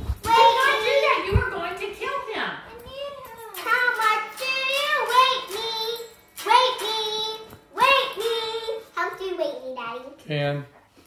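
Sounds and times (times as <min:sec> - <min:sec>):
young girl singing: 0:00.2 - 0:01.5, 0:02.7 - 0:10.2.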